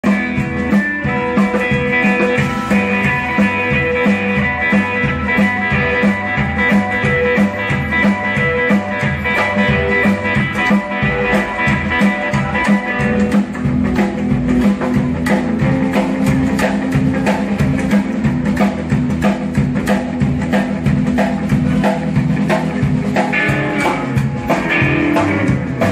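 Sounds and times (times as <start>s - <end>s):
drum kit: 0.0s - 25.9s
electric guitar: 0.0s - 25.9s
upright double bass: 1.2s - 25.9s.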